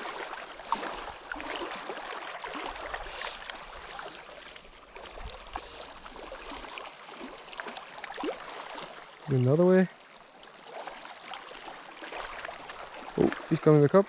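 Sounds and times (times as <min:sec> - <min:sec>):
water sloshing and trickling: 0:00.0 - 0:14.0.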